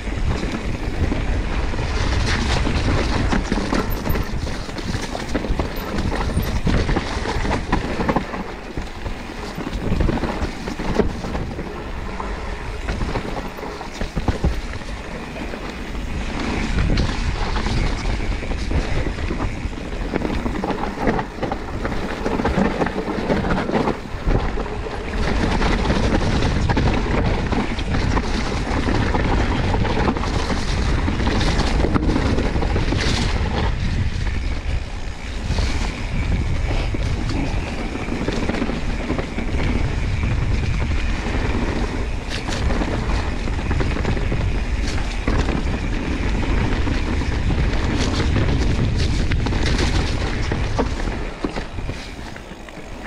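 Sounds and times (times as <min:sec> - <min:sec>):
bike rattling: 0:00.0 - 0:53.0
bike tyres rolling on dirt: 0:00.0 - 0:53.0
wind buffeting microphone: 0:00.0 - 0:53.0.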